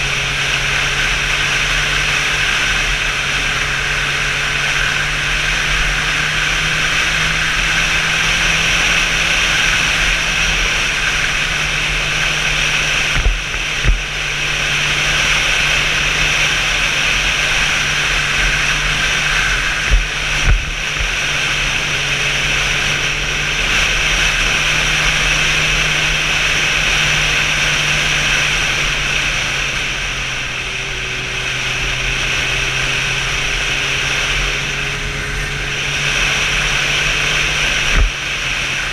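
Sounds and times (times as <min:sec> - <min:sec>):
motorcycle engine drone: 0:00.0 - 0:38.9
wind rush over microphone: 0:00.0 - 0:38.9.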